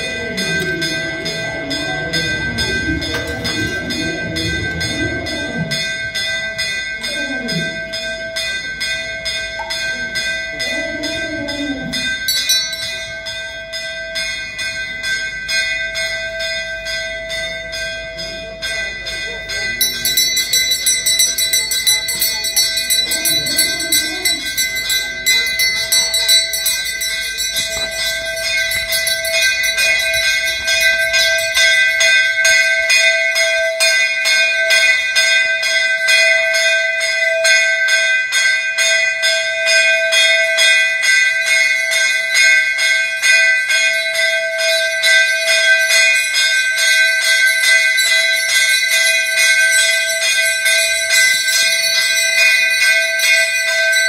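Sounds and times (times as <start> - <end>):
temple bells ringing fast: 0.0 - 54.0.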